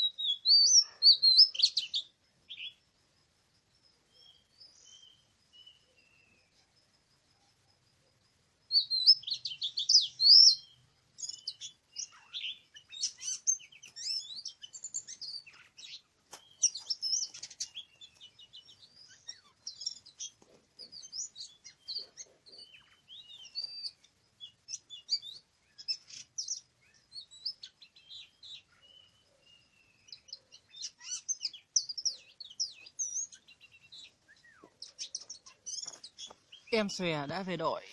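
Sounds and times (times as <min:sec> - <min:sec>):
bird singing whistles and chirps: 0:00.0 - 0:02.8, 0:04.1 - 0:06.6, 0:08.7 - 0:36.9.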